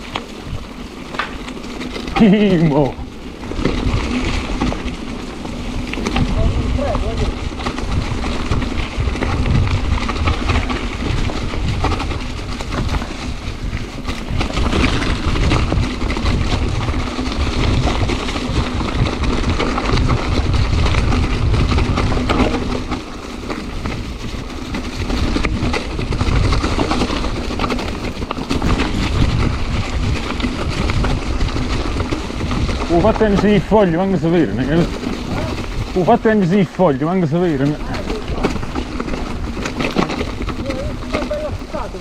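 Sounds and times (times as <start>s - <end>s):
bike rolling noise: 0.0s - 42.0s
wind buffeting microphone: 0.0s - 42.0s.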